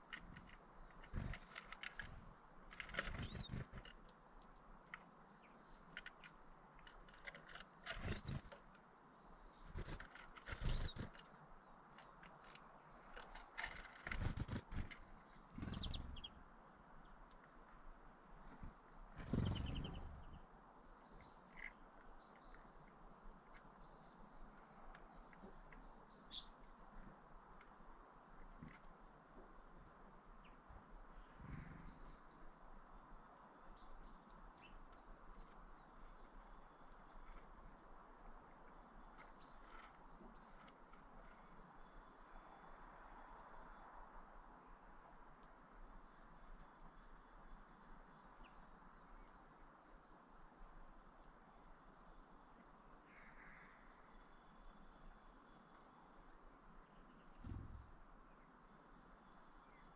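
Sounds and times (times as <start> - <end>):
small birds chirping: 0.0 - 44.0, 45.2 - 59.9.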